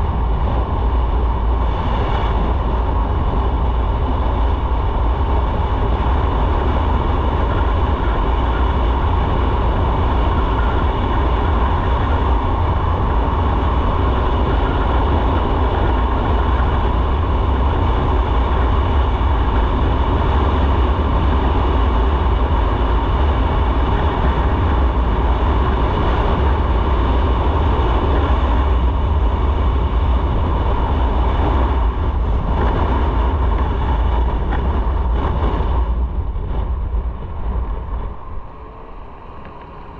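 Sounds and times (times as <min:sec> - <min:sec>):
motorcycle engine and road rumble: 0:00.0 - 0:39.9
wind rushing over microphone: 0:00.0 - 0:39.9.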